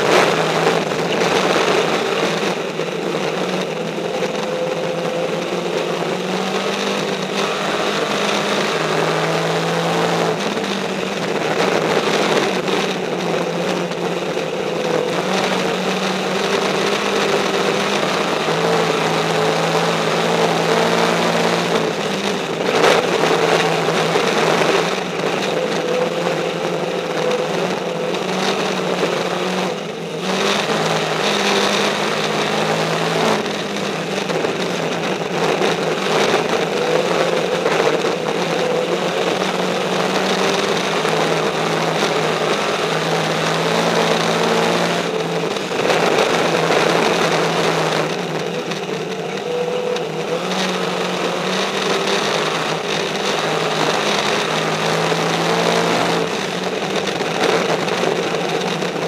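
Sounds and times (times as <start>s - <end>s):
loud wind: 0.0s - 59.0s
race car engine running hard: 0.0s - 59.0s.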